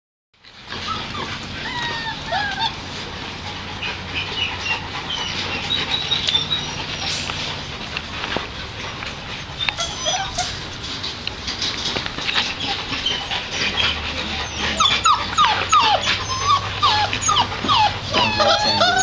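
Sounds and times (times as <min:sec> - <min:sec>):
puppies whimpering and squealing: 0:00.5 - 0:19.0.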